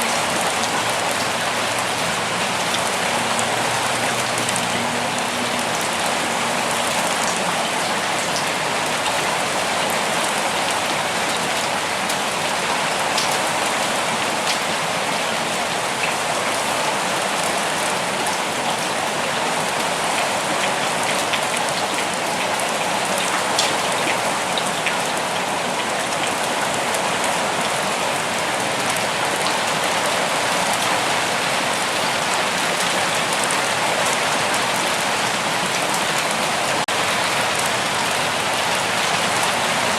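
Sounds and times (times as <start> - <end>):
raindrops falling close by: 0.0 - 39.9.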